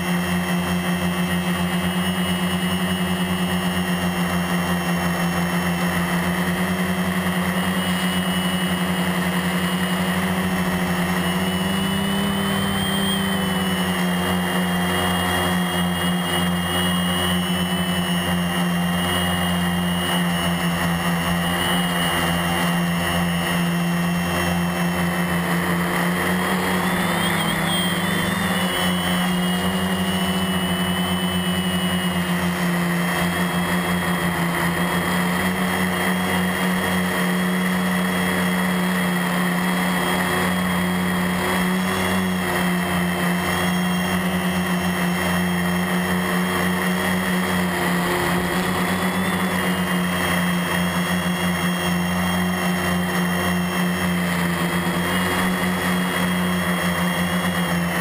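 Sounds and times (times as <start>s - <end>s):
quadcopter motors and propellers: 0.0s - 58.0s.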